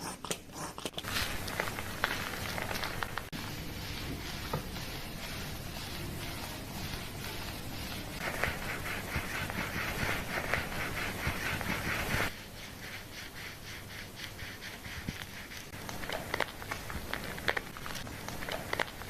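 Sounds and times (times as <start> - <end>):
hands scrubbing lathered scalp: 0.0 - 19.0.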